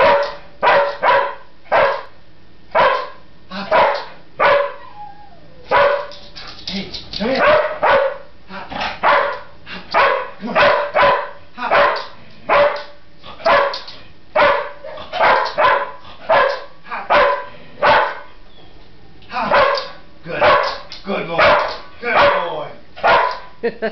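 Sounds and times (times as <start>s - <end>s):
dog barking: 0.0s - 4.8s, 5.7s - 6.2s, 7.4s - 18.4s, 19.5s - 23.6s.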